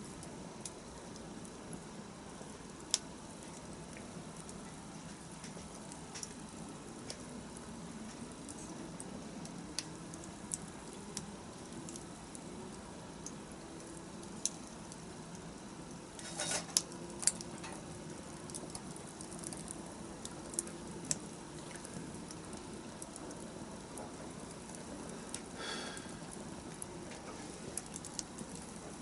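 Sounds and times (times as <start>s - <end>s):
fire hissing: 0.0s - 29.0s
wood fire crackling and popping: 0.0s - 29.0s.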